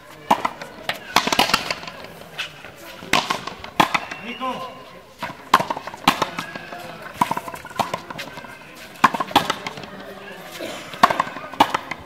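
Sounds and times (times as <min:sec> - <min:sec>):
ball smacking rackets and wall: 0:00.0 - 0:12.0
faint voices: 0:00.0 - 0:12.0.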